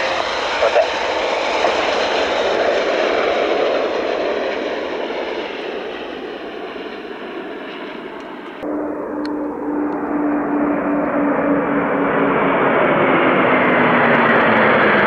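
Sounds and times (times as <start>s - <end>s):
jet aircraft engine rush: 0.0s - 15.0s.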